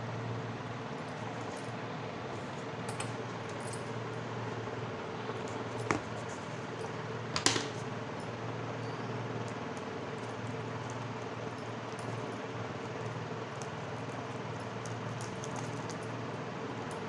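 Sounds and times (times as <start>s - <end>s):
mechanical fan hum: 0.0s - 17.0s.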